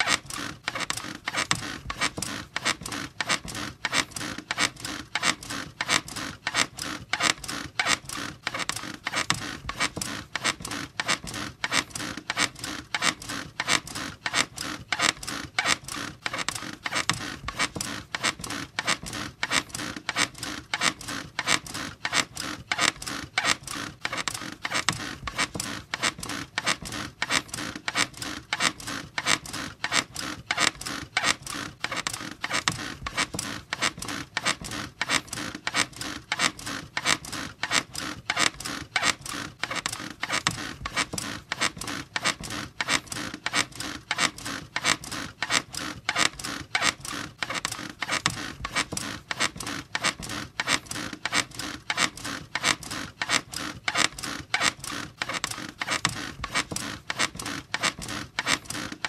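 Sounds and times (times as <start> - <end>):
bed squeaking rhythmically: 0.0 - 59.0.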